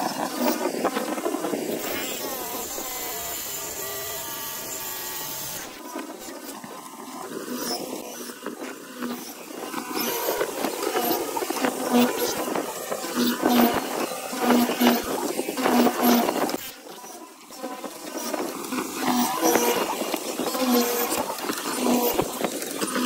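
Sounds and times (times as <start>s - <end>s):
mortiser motor running: 0.0s - 23.0s.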